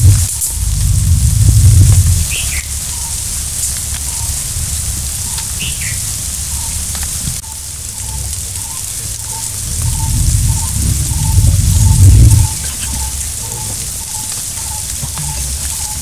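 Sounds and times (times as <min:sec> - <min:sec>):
steady high hiss: 0:00.0 - 0:16.0.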